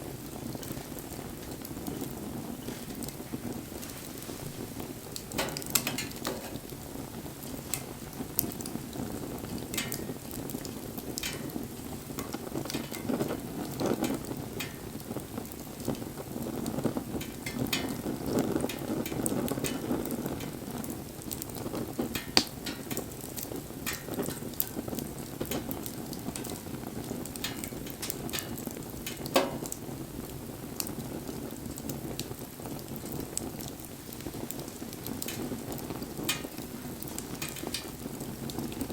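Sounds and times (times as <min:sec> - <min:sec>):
bonfire hissing: 0:00.0 - 0:38.9
fire crackles and sharp pops: 0:00.0 - 0:38.9.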